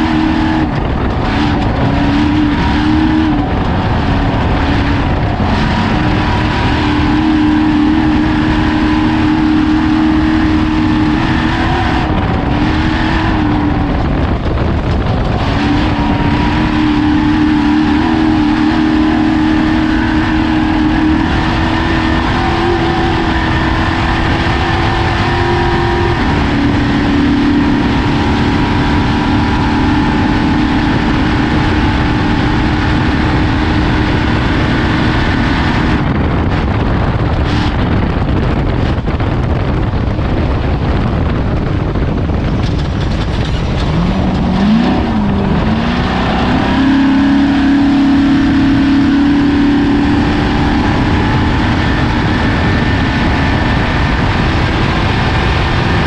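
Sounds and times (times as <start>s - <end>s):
loud rushing rumble: 0.0s - 56.0s
race vehicle engine running hard: 0.0s - 56.0s.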